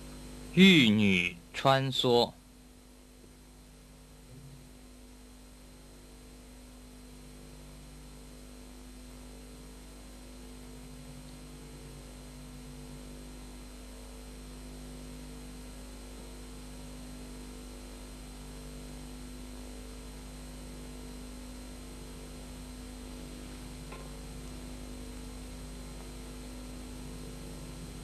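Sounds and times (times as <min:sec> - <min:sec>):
electrical hum: 0:00.0 - 0:28.0
tape hiss: 0:00.0 - 0:28.0.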